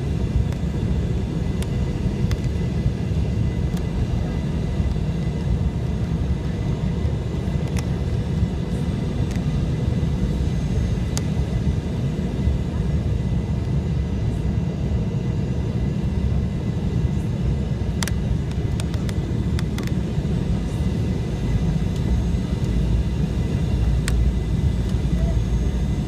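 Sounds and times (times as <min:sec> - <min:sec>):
airliner rumble: 0:00.0 - 0:26.0.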